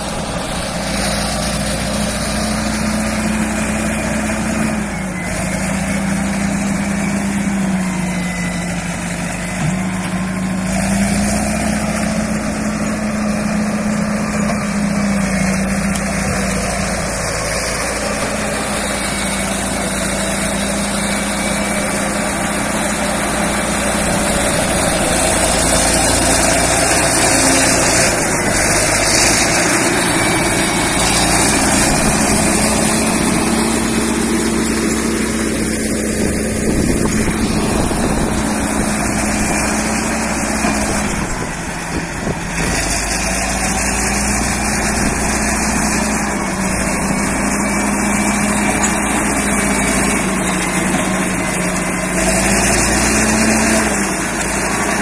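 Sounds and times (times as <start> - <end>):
track loader diesel engine: 0.0 - 55.0.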